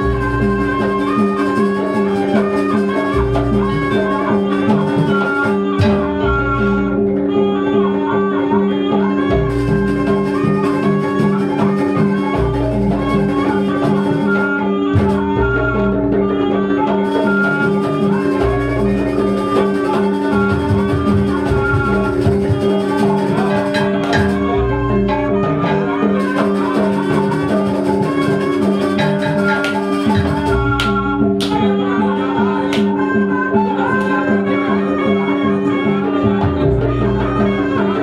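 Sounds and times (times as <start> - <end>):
gamelan ensemble playing: 0.0 - 38.0.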